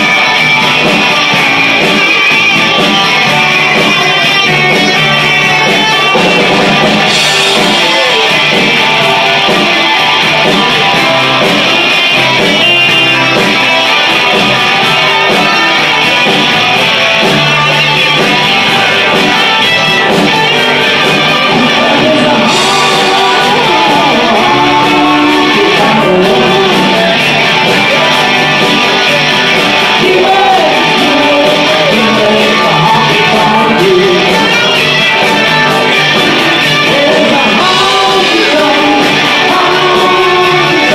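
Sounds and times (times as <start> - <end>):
guitar-led band music: 0.0 - 40.9.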